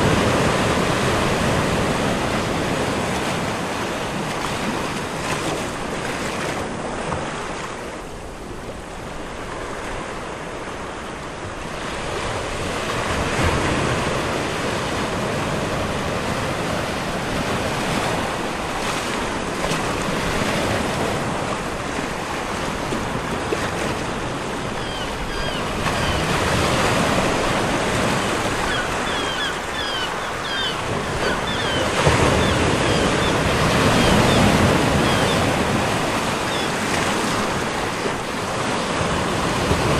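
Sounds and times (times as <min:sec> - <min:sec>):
waves: 0:00.0 - 0:39.9
wind: 0:00.0 - 0:39.9.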